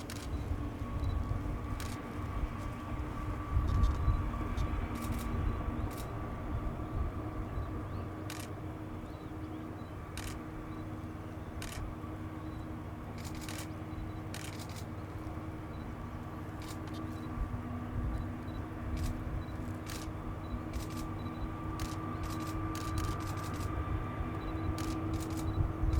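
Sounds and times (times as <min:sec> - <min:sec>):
diesel locomotive drone: 0:00.0 - 0:25.9.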